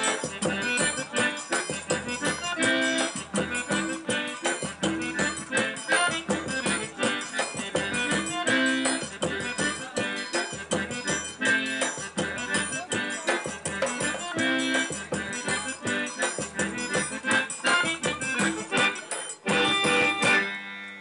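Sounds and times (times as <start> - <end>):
button accordion playing: 0.0 - 21.0.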